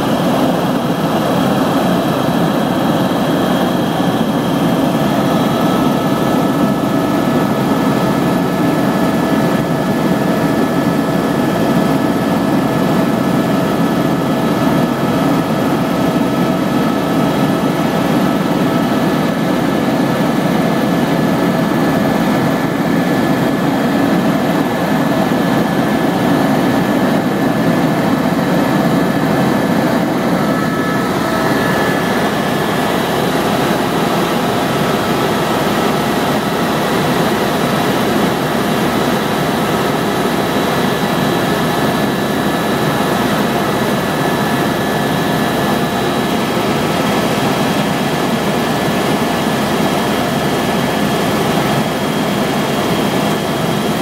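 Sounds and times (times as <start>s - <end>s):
helicopter rotor and engine rumble: 0.0s - 54.0s.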